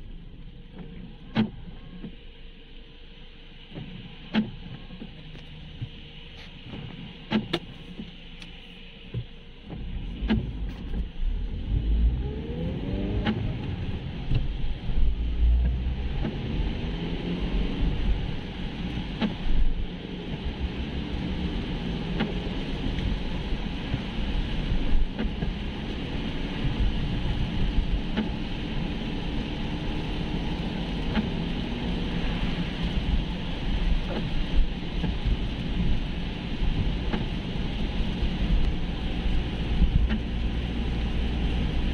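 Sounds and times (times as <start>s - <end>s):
tyres hissing on wet road: 0.0s - 41.9s
car engine accelerating: 3.6s - 41.9s.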